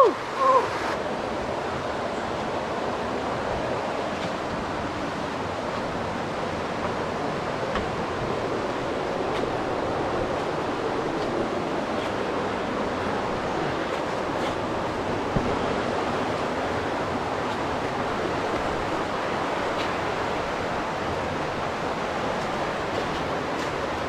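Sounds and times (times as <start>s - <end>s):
flowing river water: 0.0s - 24.0s.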